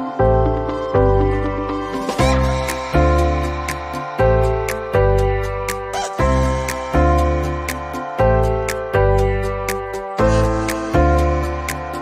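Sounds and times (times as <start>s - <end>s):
background music chords over bass: 0.0s - 12.0s.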